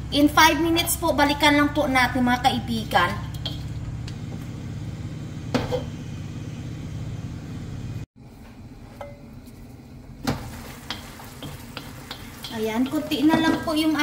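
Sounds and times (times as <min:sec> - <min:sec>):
gas hob rumbling: 0:00.0 - 0:14.0.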